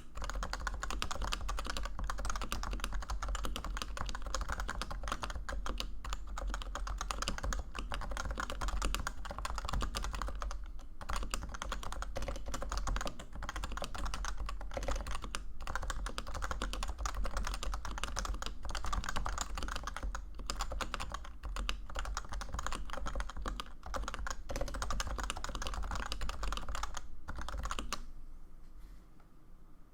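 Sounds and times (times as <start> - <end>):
fast typing on keyboard: 0.0 - 28.0.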